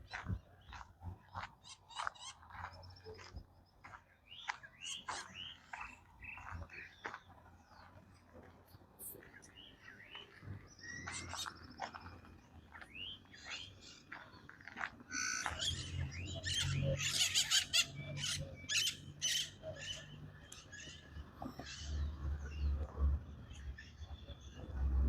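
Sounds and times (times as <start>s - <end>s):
birds chirping and calling: 0.0s - 25.0s.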